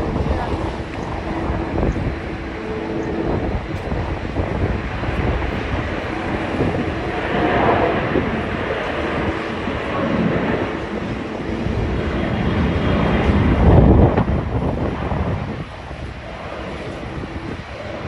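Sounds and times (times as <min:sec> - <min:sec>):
jet airliner engine rumble: 0:00.0 - 0:18.0.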